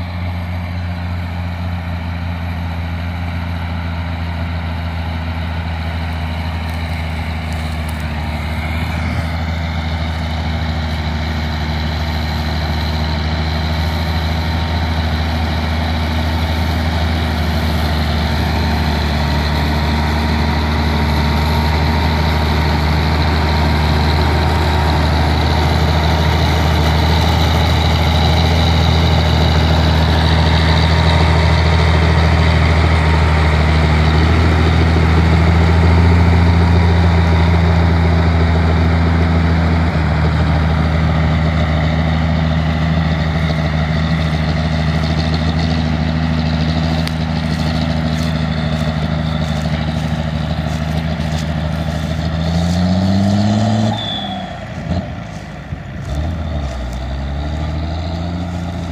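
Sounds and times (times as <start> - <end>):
tractor engines under load: 0.0 - 58.9.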